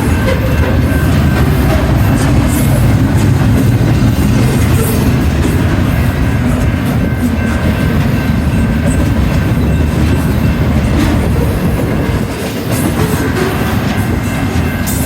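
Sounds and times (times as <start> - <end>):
freight train rumbling past: 0.0 - 15.0
wheels clacking over rail joints: 0.0 - 15.0.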